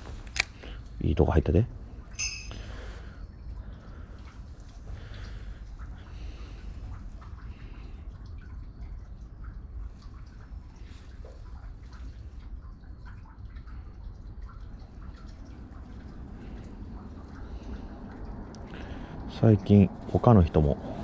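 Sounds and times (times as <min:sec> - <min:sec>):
water dripping and trickling: 0:00.0 - 0:21.0.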